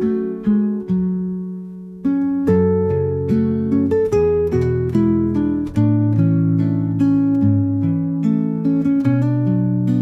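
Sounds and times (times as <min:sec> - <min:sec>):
acoustic guitar melody: 0:00.0 - 0:10.0.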